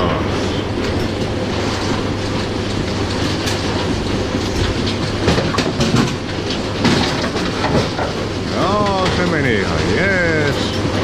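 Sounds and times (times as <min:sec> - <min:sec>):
bowling pinsetter machine running: 0:00.0 - 0:11.0.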